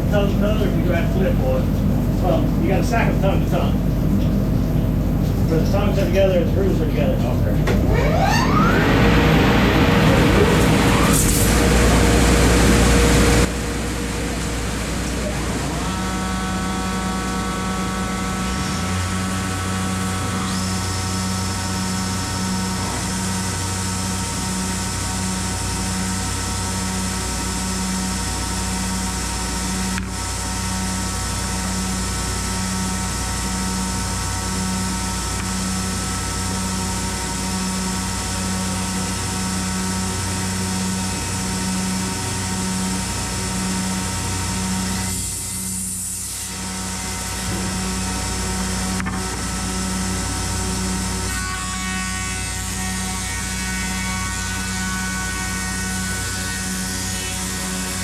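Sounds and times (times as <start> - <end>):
motor whine rising: 0.0 - 54.2
planing machine humming and whining: 0.0 - 58.0.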